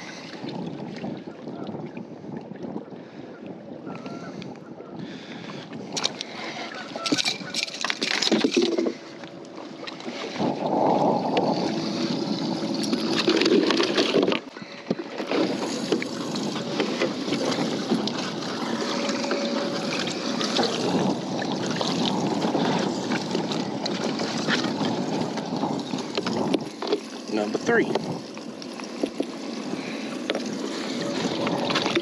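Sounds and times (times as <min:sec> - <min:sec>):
wind: 0:00.0 - 0:32.0
water washing: 0:06.0 - 0:32.0.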